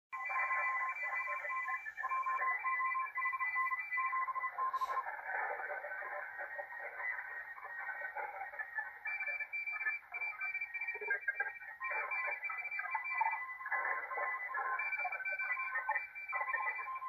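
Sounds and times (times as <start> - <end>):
radio band noise: 0.1 - 17.0.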